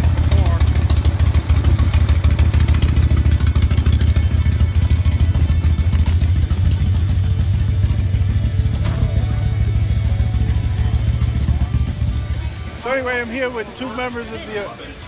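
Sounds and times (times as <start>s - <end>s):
motorcycle engine low rumble: 0.0s - 15.0s.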